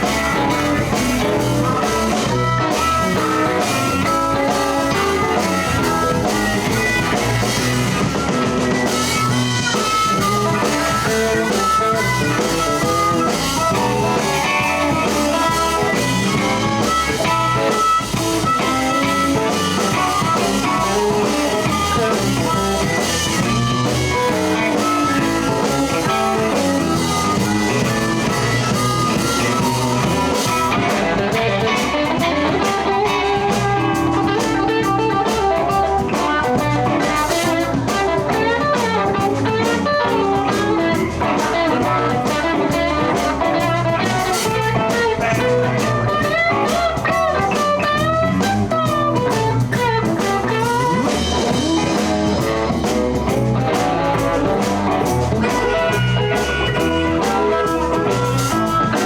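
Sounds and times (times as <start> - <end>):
electric guitar bending notes: 0.0 - 59.0
live blues band playing: 0.0 - 59.0.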